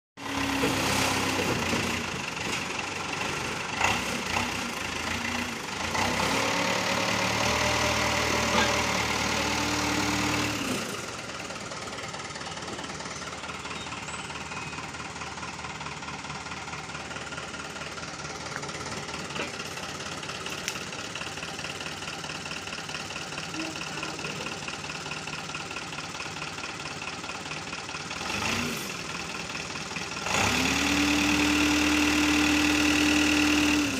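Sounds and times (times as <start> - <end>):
backhoe engine revving and idling: 0.2 - 33.9.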